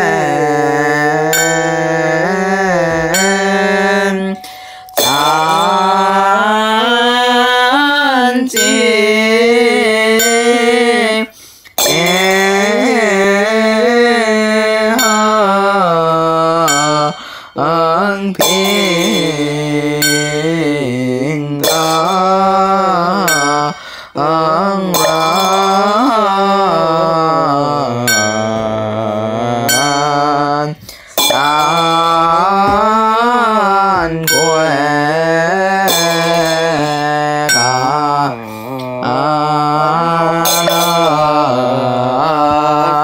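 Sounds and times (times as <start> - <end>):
liturgical chanting: 0.0 - 43.0.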